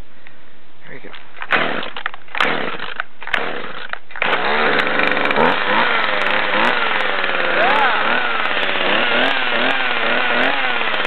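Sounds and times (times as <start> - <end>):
chainsaw starting and running: 1.4 - 11.0.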